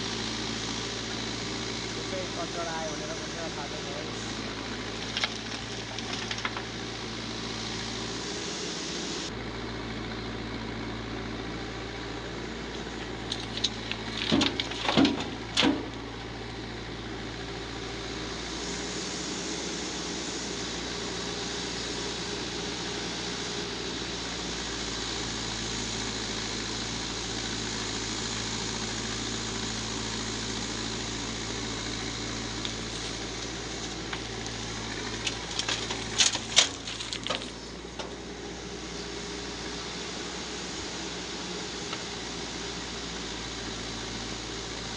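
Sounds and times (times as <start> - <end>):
diesel engine running steadily: 0.0 - 44.9.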